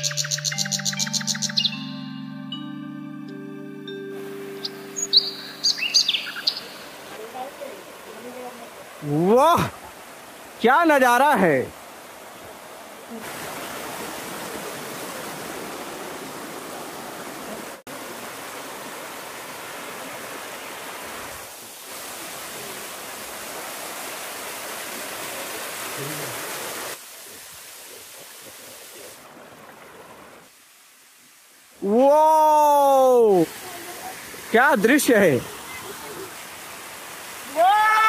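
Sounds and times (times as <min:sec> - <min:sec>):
small waterfall rushing: 0:04.2 - 0:38.0.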